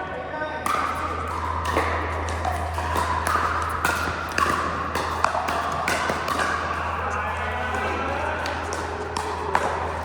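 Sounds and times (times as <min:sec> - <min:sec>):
steady low hum: 0:00.0 - 0:10.0
paddles hitting plastic ball: 0:00.7 - 0:10.0.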